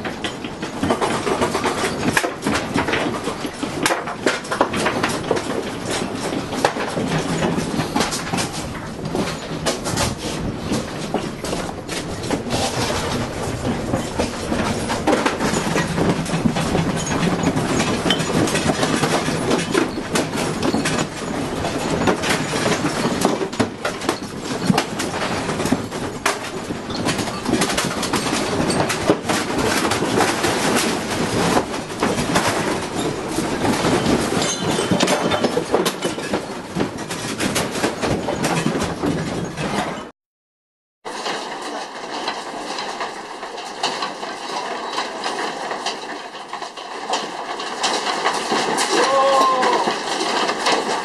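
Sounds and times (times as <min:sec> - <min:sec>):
house rattling in earthquake: 0:00.0 - 0:40.2, 0:41.0 - 0:51.0.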